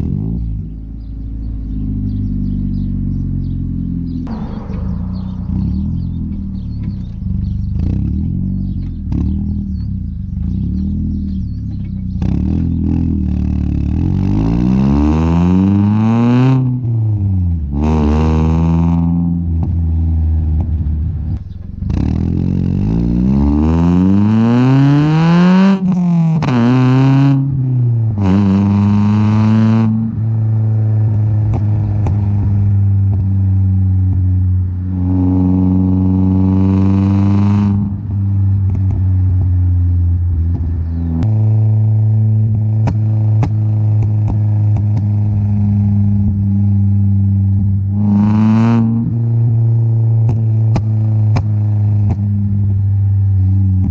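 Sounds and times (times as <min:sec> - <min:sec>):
car exhaust revving: 0:00.0 - 0:53.9.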